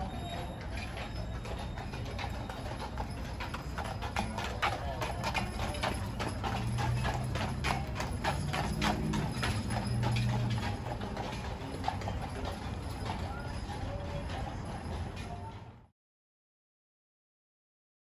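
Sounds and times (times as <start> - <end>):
horse hooves clip-clopping on pavement: 0.0 - 15.9.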